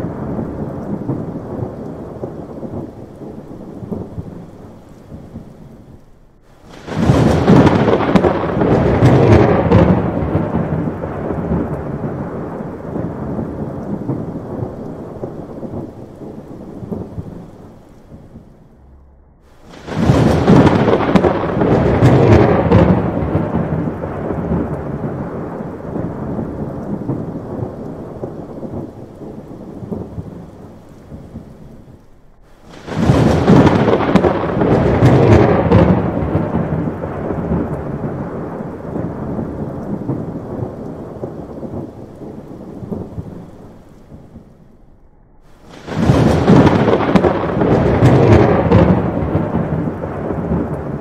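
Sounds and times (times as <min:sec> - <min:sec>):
steady rain: 0:00.0 - 0:51.0
thunder rumbling: 0:00.0 - 0:51.0.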